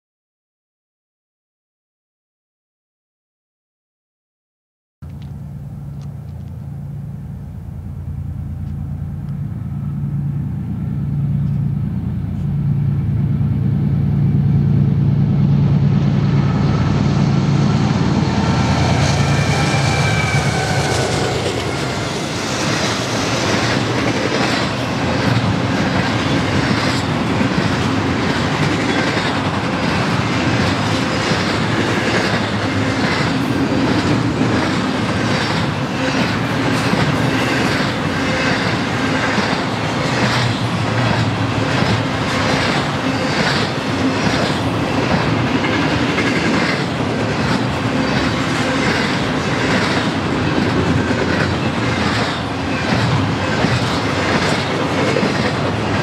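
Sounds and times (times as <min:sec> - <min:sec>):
freight train rolling past: 0:05.0 - 0:56.0.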